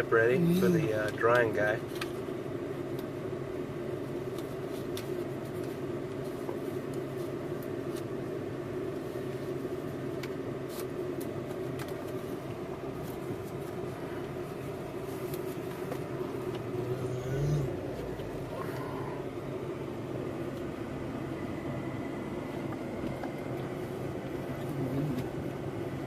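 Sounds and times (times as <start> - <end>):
engine idling from inside cabin: 0.0 - 26.0.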